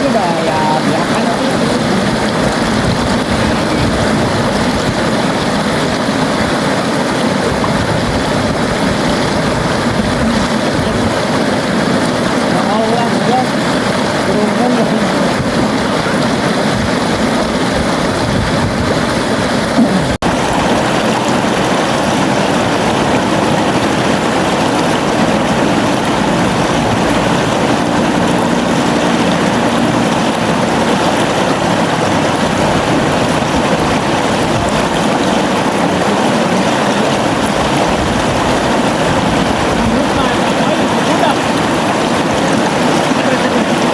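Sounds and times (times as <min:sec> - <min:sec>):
river flowing: 0:00.0 - 0:43.9.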